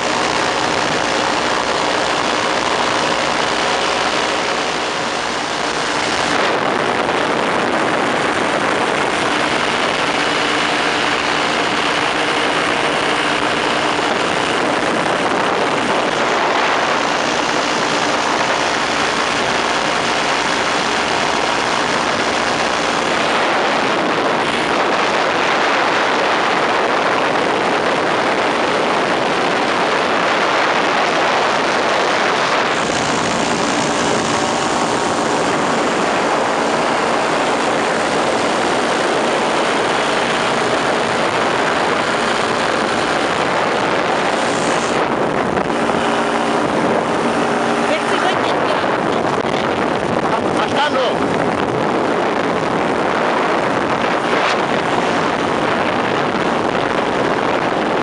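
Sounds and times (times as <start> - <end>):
aircraft engine and propeller: 0.0 - 58.0
wind rush: 0.0 - 58.0.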